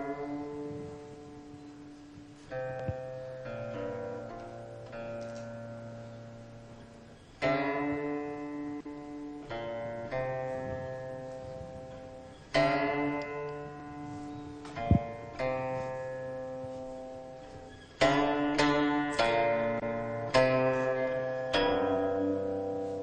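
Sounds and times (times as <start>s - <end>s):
plucked string instrument music: 0.0s - 23.0s.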